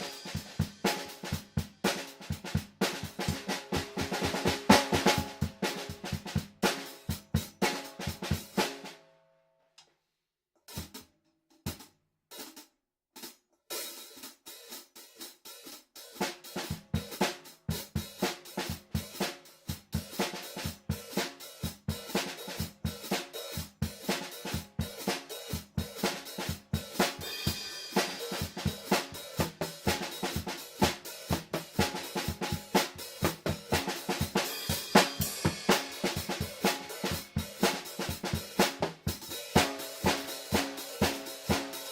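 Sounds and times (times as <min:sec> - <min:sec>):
drum kit playing: 0:00.0 - 0:09.0, 0:13.2 - 0:41.9.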